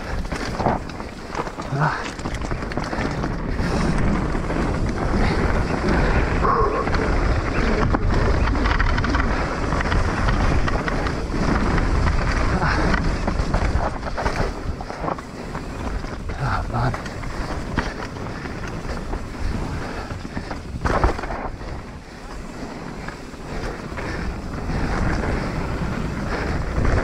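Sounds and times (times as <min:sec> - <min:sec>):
bike knocks and rattles: 0:00.0 - 0:27.0
bike tyres rolling over stones: 0:00.0 - 0:27.0
wind buffeting microphone: 0:00.0 - 0:27.0.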